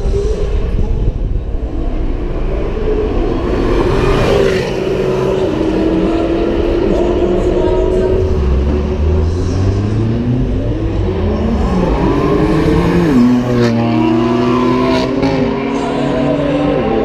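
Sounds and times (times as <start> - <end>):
car engine accelerating hard: 1.6 - 17.0.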